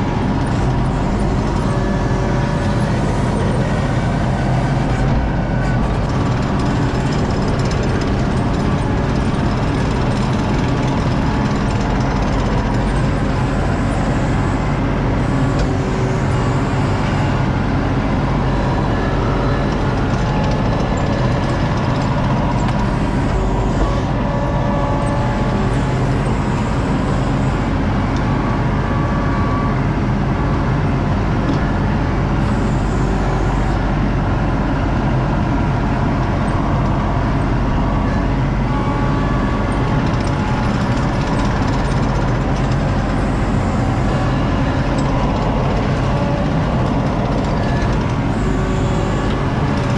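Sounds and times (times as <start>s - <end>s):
heavy vehicle engine running: 0.0s - 49.9s.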